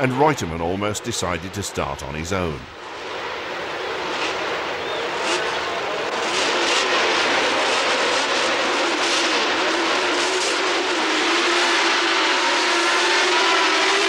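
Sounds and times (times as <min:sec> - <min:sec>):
racing car engines revving: 0:00.0 - 0:14.0.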